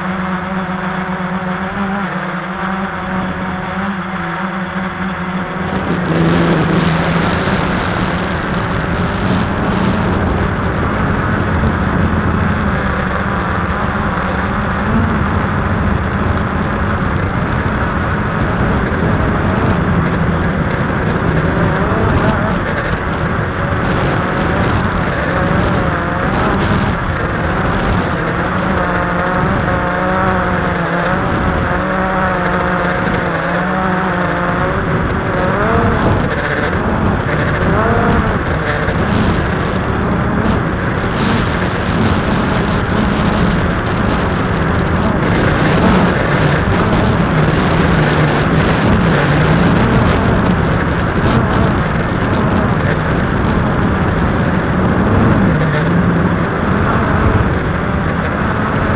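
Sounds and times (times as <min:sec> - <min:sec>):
drone propellers buzzing: 0:00.0 - 0:58.9.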